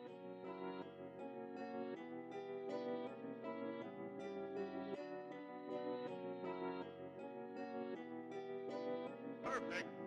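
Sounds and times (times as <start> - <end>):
plucked string and keyboard melody: 0.0 - 10.0.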